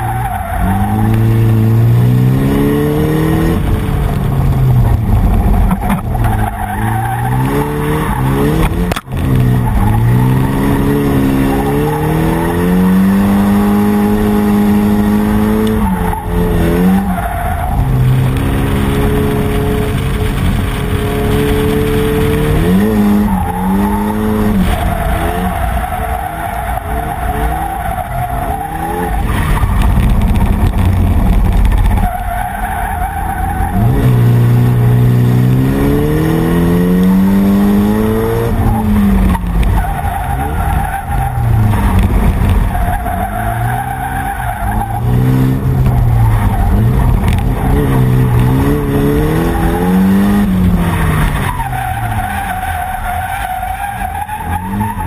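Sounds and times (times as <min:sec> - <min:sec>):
car engine revving: 0:00.0 - 0:55.0
tyres skidding: 0:00.0 - 0:55.0.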